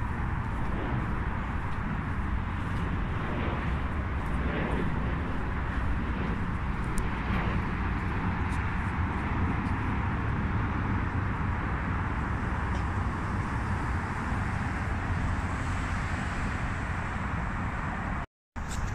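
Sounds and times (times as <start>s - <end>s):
traffic rumble: 0.0s - 18.9s.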